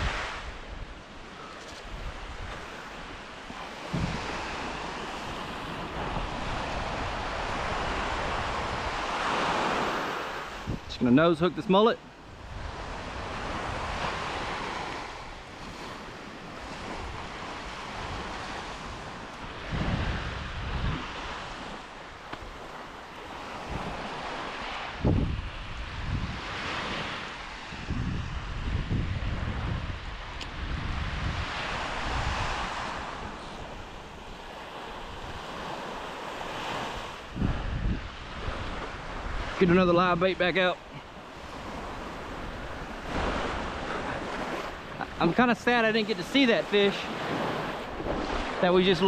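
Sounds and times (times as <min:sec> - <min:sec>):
wind buffeting microphone: 0:00.0 - 0:11.2, 0:12.2 - 0:45.6, 0:47.1 - 0:49.0
surf washing onto beach: 0:00.0 - 0:49.0.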